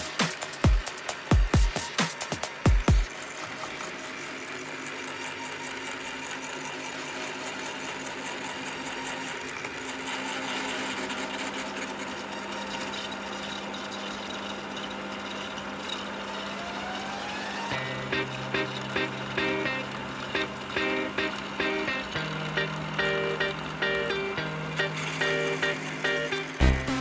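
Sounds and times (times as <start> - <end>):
drill press motor hum: 0.0 - 27.0.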